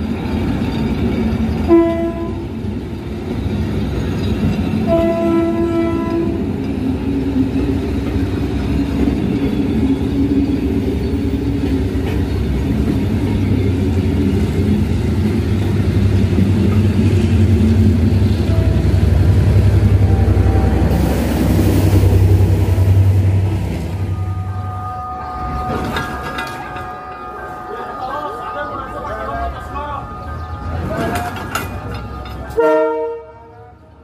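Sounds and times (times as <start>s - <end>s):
diesel locomotive engine drone: 0.0s - 34.0s
train carriages rumbling on track: 0.0s - 34.0s.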